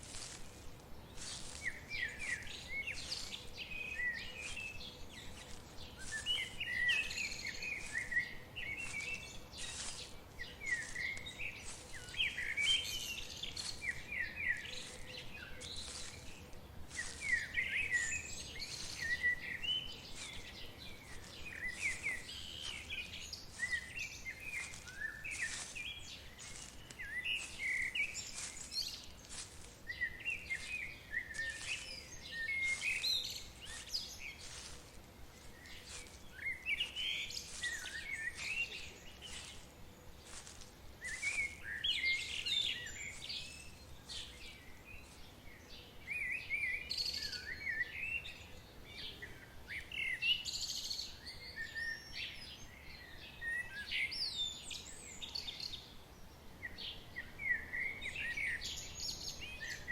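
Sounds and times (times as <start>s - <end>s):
faint background hiss: 0.0s - 59.9s
songbirds chirping: 0.0s - 59.9s.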